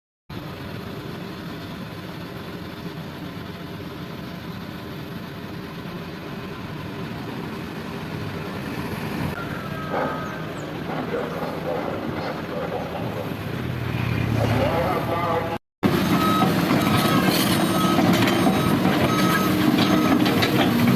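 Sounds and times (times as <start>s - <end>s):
excavator diesel engine running: 0.3s - 20.9s.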